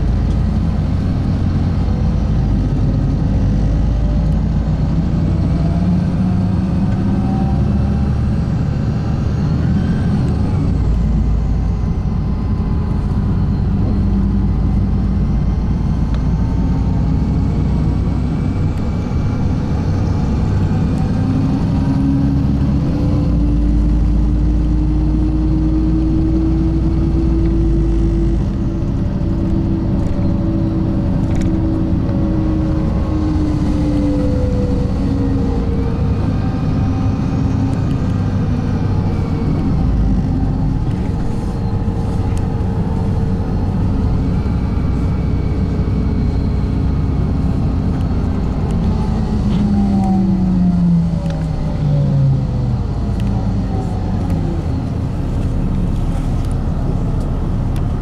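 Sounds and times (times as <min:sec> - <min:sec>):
bus engine rumble: 0:00.0 - 0:58.0
rising drivetrain whine: 0:00.0 - 0:58.0.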